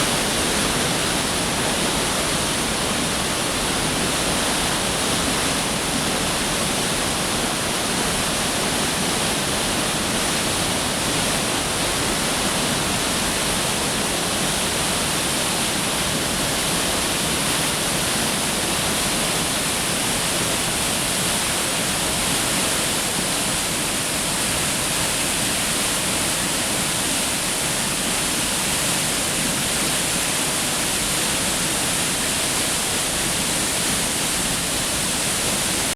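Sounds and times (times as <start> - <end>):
water rushing down rock channel: 0.0 - 35.9.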